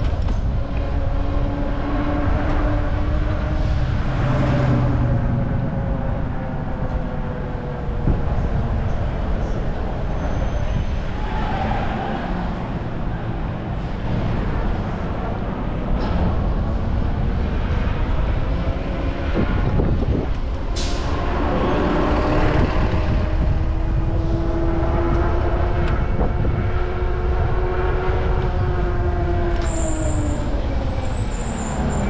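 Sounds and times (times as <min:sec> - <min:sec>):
bike road noise: 0:00.0 - 0:32.0
passing vehicle whine: 0:00.0 - 0:32.0
wind rumble on microphone: 0:00.0 - 0:32.0.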